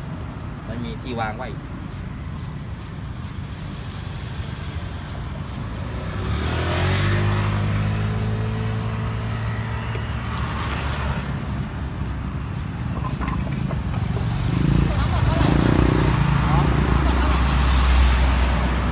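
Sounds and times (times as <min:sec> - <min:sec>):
low traffic rumble: 0:00.0 - 0:18.9.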